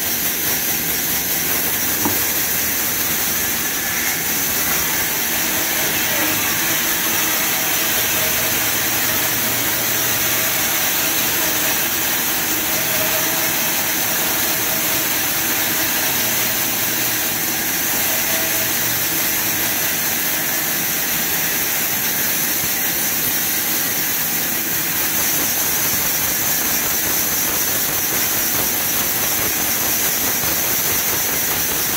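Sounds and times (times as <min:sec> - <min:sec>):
band saw cutting log: 0:00.0 - 0:31.9.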